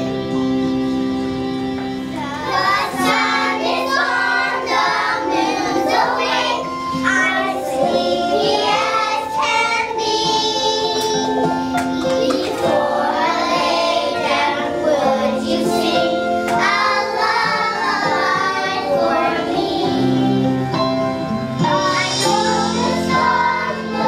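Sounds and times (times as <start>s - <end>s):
instrumental accompaniment: 0.0s - 24.0s
children singing: 2.0s - 24.0s.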